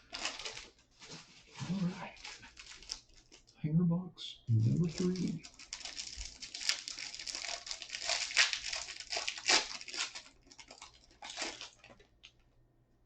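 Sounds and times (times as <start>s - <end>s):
packaging crackling and crinkling: 0.0s - 3.6s, 4.6s - 12.5s.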